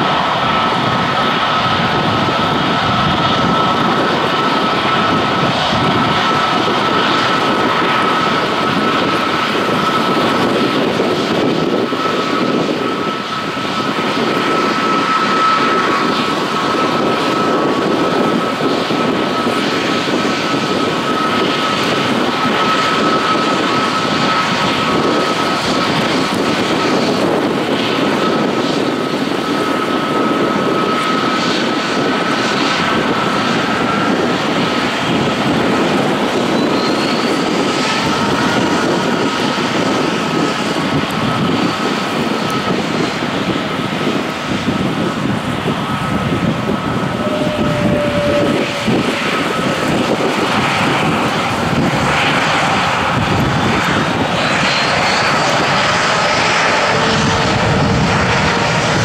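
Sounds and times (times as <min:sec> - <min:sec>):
jet engines at taxi power: 0:00.0 - 0:59.0.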